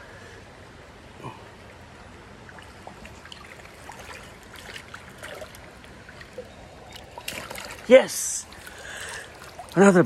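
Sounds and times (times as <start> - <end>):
creek water running: 0.9 - 10.0
water splashes and trickles: 0.9 - 10.0.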